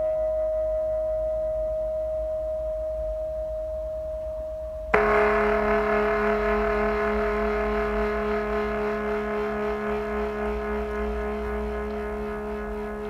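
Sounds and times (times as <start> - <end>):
lower ringing tone with overtones: 0.0 - 13.0
resonant ringing tone: 0.0 - 13.0.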